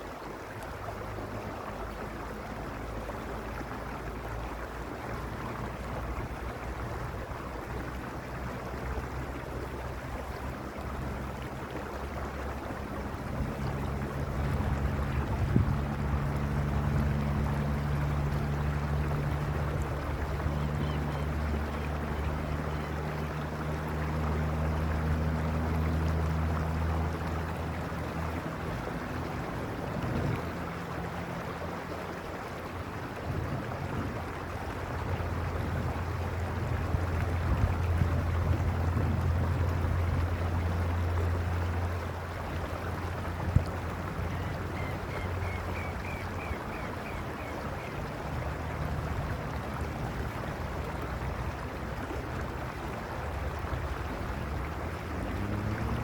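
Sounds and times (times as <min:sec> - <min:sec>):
low steady hum: 0:00.0 - 0:56.0
stream rushing over stones: 0:00.0 - 0:56.0.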